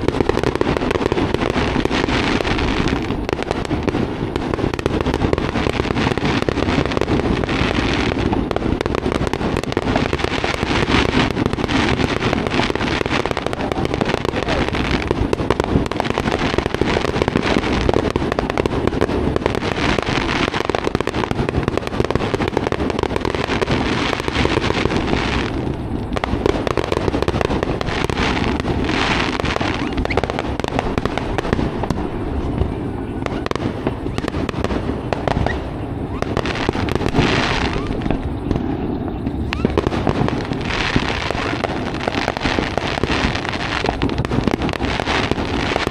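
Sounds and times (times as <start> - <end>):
fireworks crackling and banging: 0.0 - 45.9.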